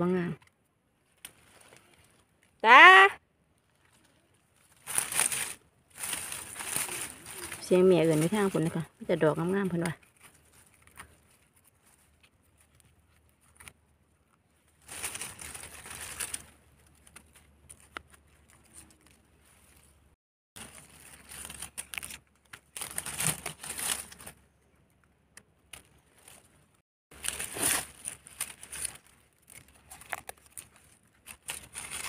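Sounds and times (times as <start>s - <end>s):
dry leaves rustling: 1.0s - 2.6s, 3.6s - 24.5s, 25.7s - 32.0s.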